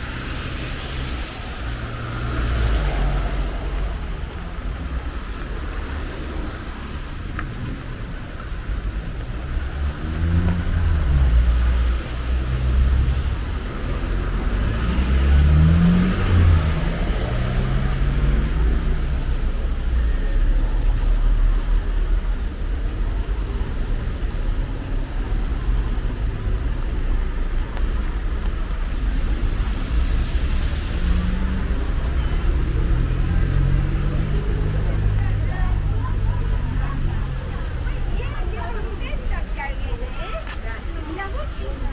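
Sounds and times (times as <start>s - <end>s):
cars accelerating past: 0.0s - 41.9s
rain: 0.0s - 41.9s
tyres hissing on wet road: 0.0s - 41.9s.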